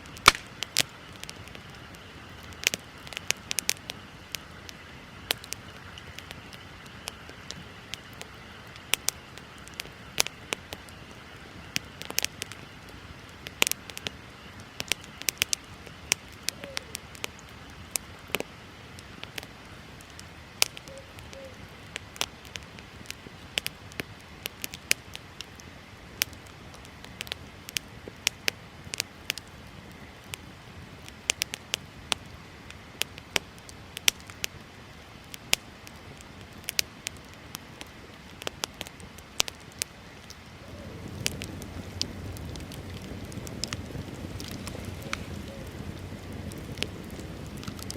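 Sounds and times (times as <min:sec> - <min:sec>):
bonfire crackling and popping: 0:00.0 - 0:47.9
low hiss of burning: 0:00.0 - 0:47.9.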